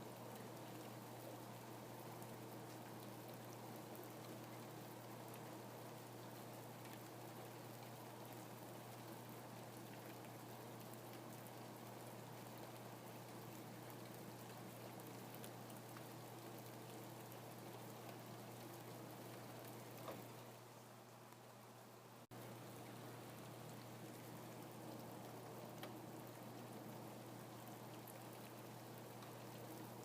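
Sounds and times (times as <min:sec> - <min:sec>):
faint rain with drop ticks: 0:00.0 - 0:30.0.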